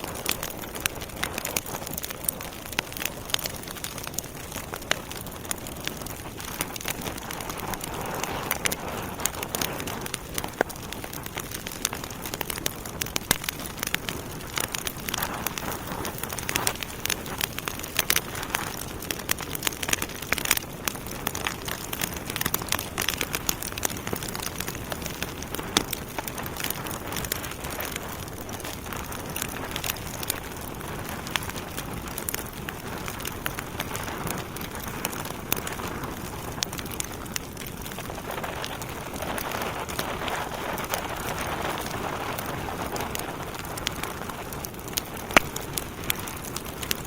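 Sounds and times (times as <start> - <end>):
logs crackling in fireplace: 0.0 - 47.0.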